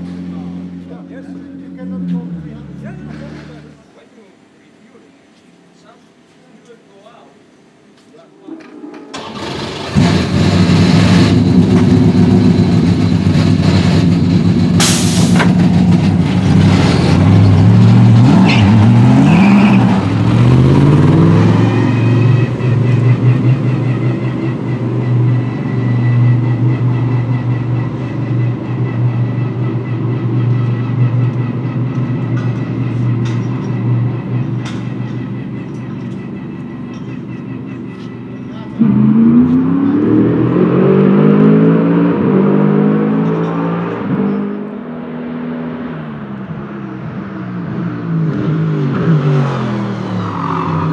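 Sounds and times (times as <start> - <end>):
race car engine revving: 9.1 - 50.9.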